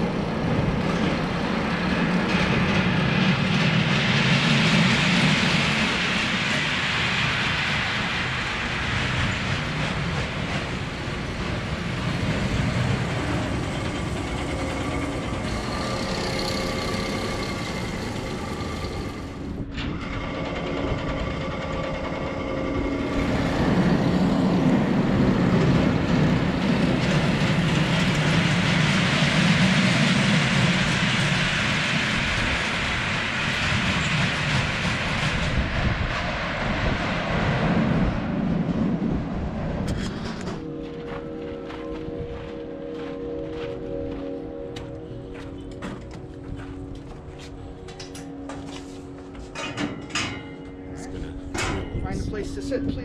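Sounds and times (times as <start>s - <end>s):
roller coaster rumbling on track: 0.0s - 53.0s.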